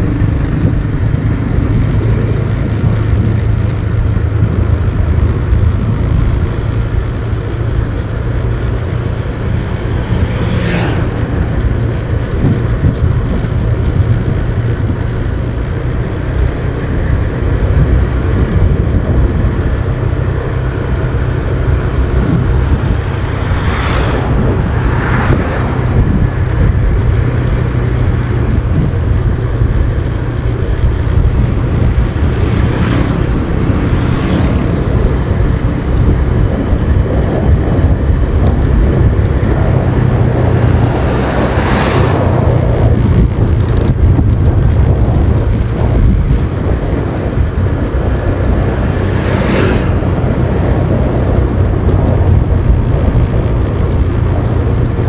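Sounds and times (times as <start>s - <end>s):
motorbike engine rumble: 0.0s - 55.0s
rushing wind: 0.0s - 55.0s.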